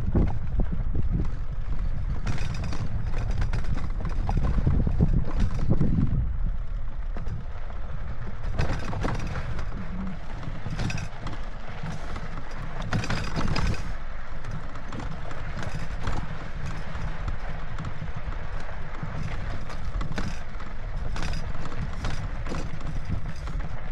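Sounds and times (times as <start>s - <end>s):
bike knocking and rattling: 0.0s - 23.9s
steady rumble: 0.0s - 23.9s.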